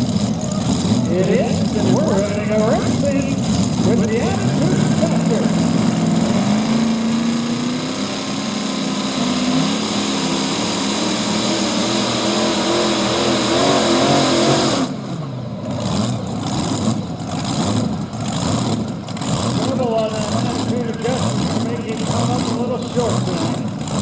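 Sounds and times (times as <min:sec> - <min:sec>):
pulling tractor engine at full throttle: 0:00.0 - 0:24.0.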